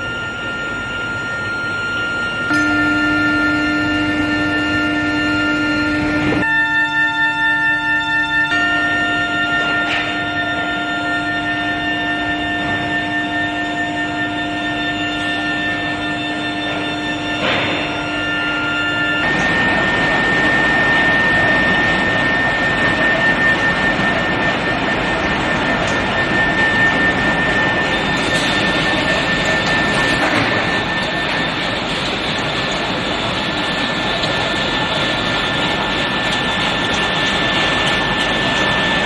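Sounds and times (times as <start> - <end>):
heavy factory machinery roar: 0.0 - 39.0
high-pitched machine whine: 0.0 - 39.0.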